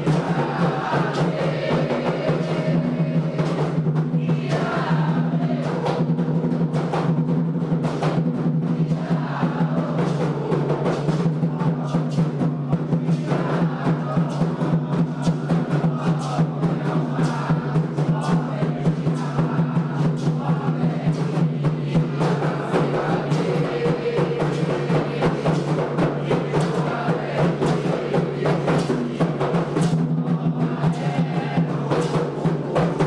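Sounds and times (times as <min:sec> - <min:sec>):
group chanting: 0:00.0 - 0:33.0
hand drums playing: 0:00.0 - 0:33.0.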